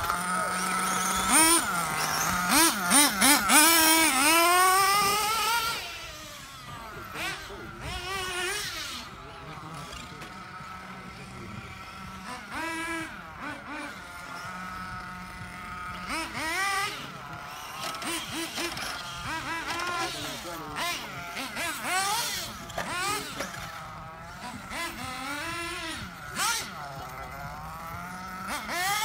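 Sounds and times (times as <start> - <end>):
rc car motors whining: 0.0 - 29.0.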